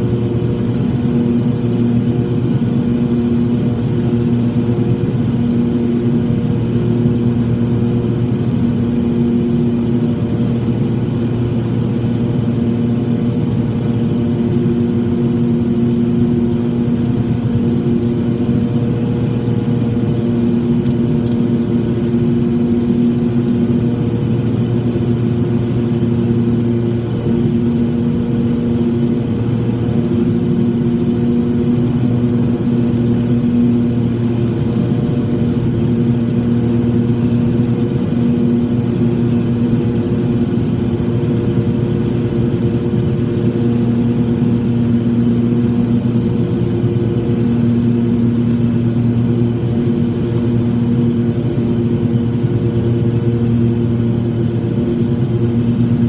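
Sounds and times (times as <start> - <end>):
aircraft engines droning in cabin: 0.0 - 56.0.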